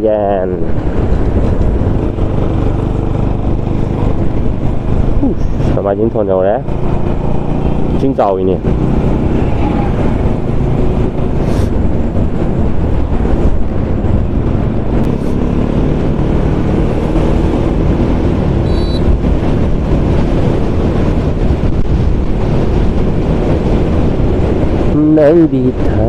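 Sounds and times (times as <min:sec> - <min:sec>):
wind rushing over microphone: 0:00.0 - 0:26.0
motorcycle engine cruising: 0:00.4 - 0:26.0.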